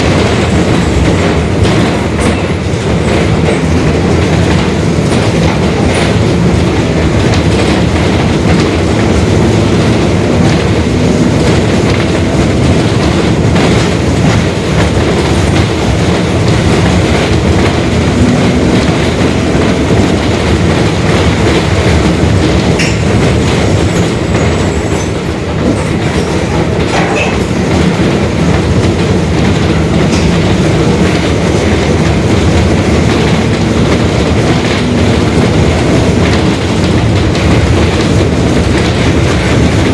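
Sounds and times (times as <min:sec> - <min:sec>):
bus diesel engine rumble: 0:00.0 - 0:39.9
sharp clicks and rattles: 0:00.0 - 0:39.9.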